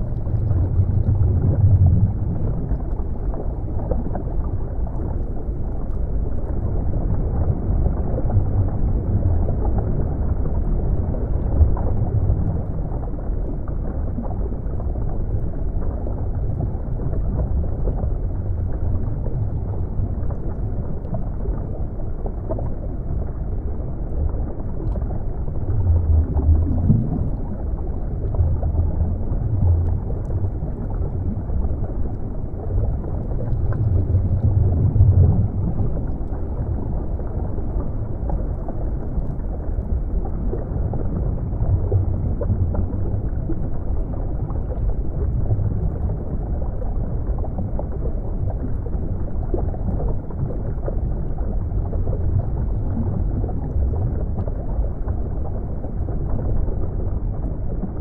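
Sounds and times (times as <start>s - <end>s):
muffled underwater water rumble: 0.0s - 58.0s.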